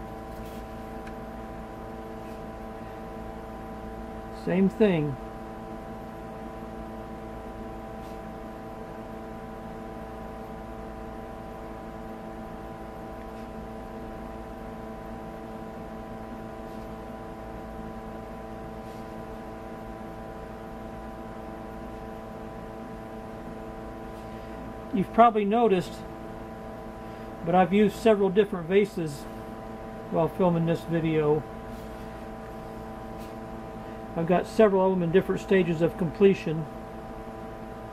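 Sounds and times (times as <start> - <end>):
steady electrical hum: 0.0 - 37.9.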